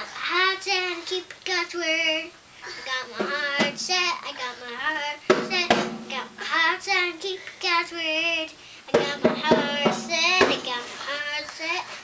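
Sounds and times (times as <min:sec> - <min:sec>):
young boy singing: 0:00.0 - 0:12.0.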